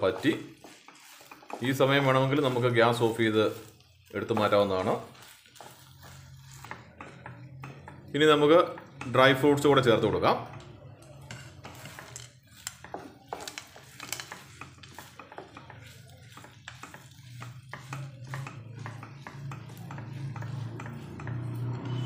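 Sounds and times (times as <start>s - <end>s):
spatula scraping a pan: 0.0s - 22.0s.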